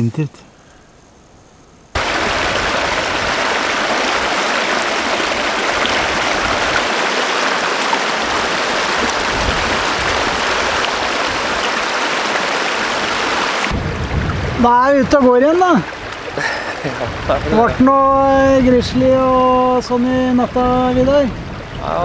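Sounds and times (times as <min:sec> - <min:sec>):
stream rushing over boulders: 0:02.0 - 0:22.0.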